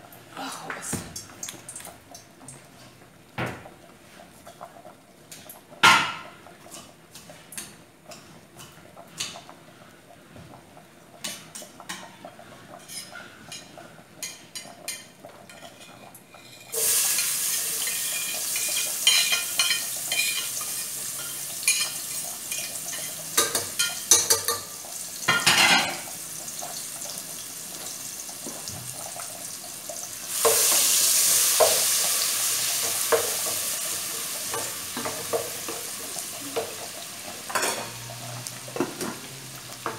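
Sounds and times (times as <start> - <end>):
loud sizzle in hot fat: 3.3 - 10.4, 11.2 - 39.9.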